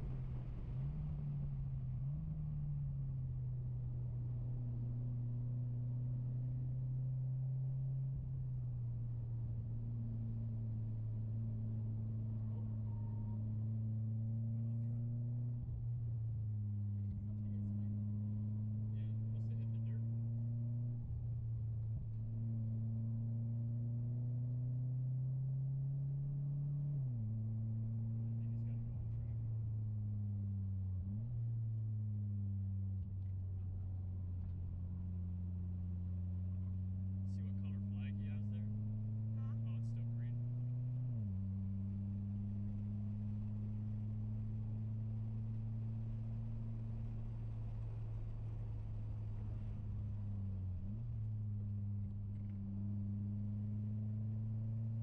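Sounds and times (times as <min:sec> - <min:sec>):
car engine droning inside cabin: 0:00.0 - 0:55.0.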